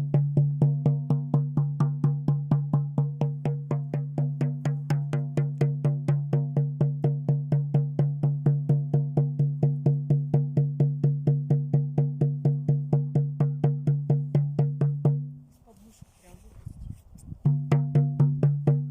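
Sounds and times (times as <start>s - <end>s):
frame drum beaten: 0.0s - 15.4s, 17.4s - 18.9s.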